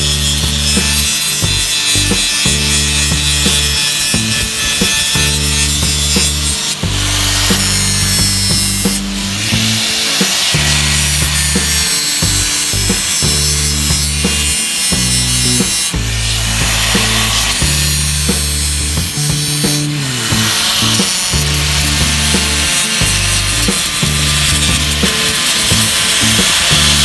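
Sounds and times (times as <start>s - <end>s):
background music with bass line: 0.0s - 27.0s
power tool sanding: 0.0s - 27.0s.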